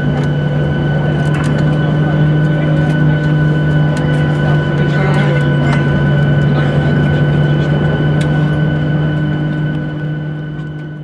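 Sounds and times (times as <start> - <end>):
murmuring passengers: 0.0 - 10.6
aircraft cabin drone and hum: 0.0 - 11.0.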